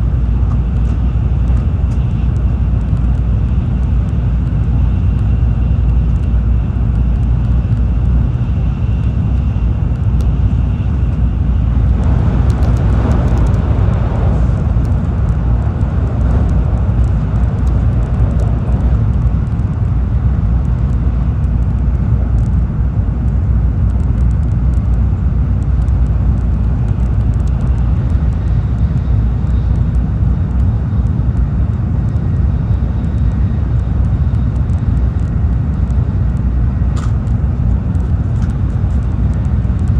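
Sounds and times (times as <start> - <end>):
train rumbling at speed: 0.0 - 39.9.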